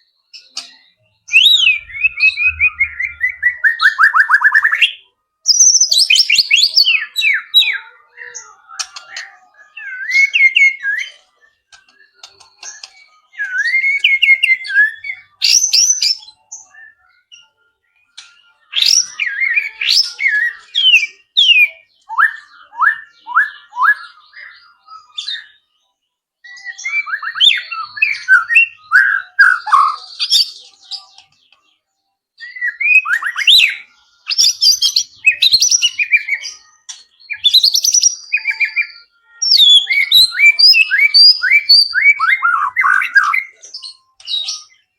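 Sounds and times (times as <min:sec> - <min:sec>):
shama bird singing: 0:00.0 - 0:44.9.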